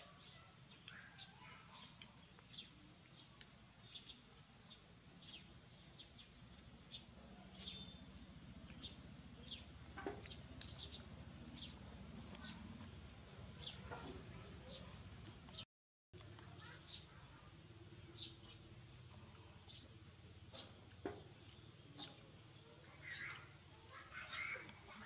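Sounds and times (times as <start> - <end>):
small birds chirping: 0.0 - 15.6, 16.2 - 25.0.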